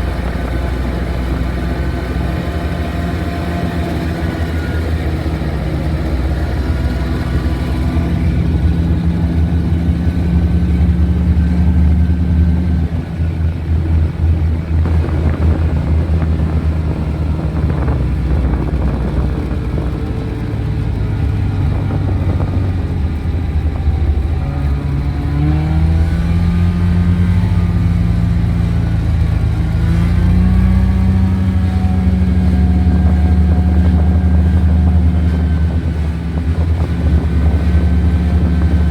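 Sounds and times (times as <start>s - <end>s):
truck engine under load: 0.0s - 38.9s.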